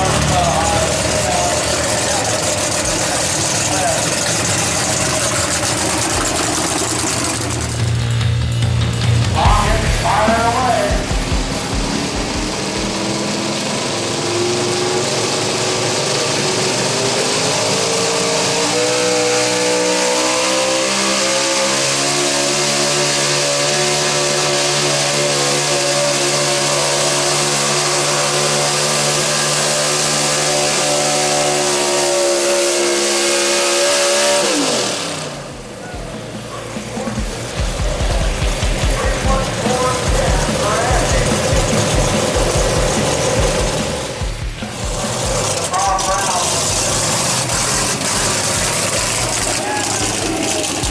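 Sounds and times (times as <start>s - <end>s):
truck engine at full throttle: 0.0s - 50.9s.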